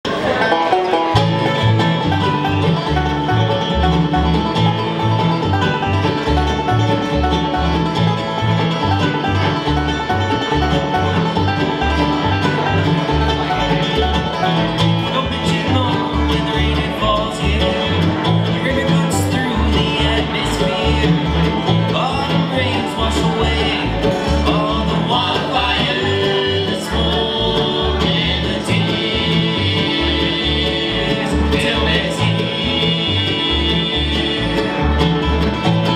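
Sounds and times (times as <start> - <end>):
acoustic guitar: 0.0 - 35.9
banjo picking: 0.0 - 35.9
mandolin: 0.0 - 35.9
upright bass plucking: 0.0 - 35.9.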